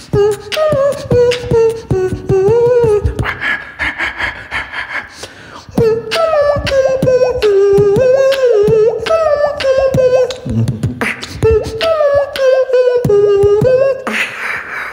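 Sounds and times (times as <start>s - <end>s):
hummed melody: 0.0s - 3.5s, 5.7s - 14.2s
person beatboxing: 0.0s - 14.9s
rapidly pulsing vocal effect: 0.0s - 14.9s.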